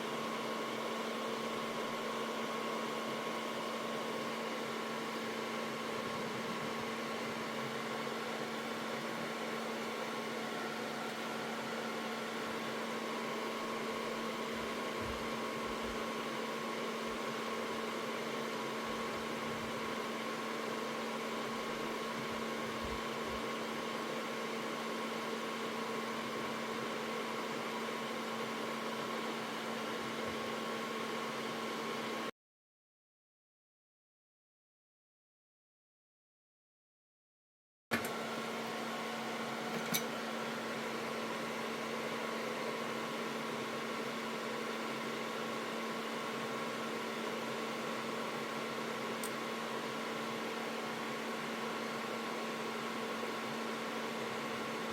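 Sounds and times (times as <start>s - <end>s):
mechanical hum with hiss: 0.0s - 32.3s, 38.0s - 54.9s.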